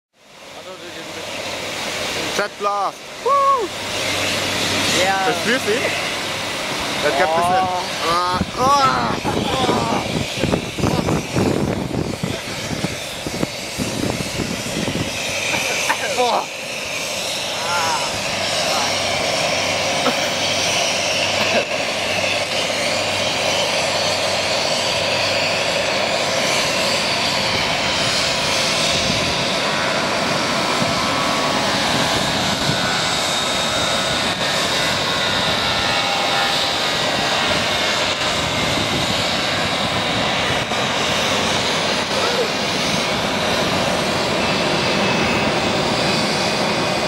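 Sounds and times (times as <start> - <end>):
jet engines roaring: 0.2 - 47.0.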